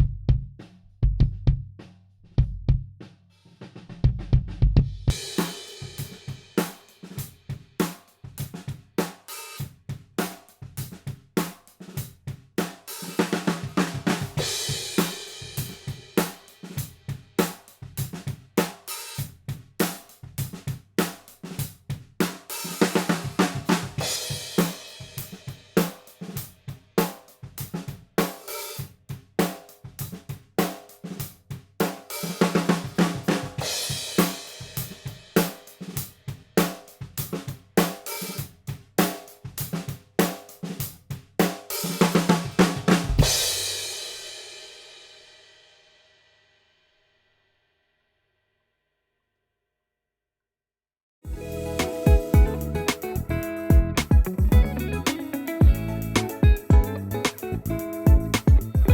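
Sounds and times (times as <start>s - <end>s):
drum kit groove: 0.0s - 45.6s, 51.3s - 58.9s.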